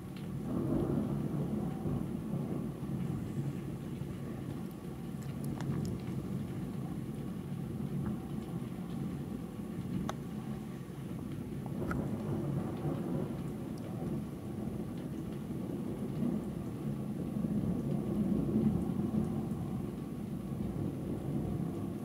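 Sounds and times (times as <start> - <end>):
faint raindrop ticks: 0.0 - 22.0
thunder rumbling: 0.4 - 22.0.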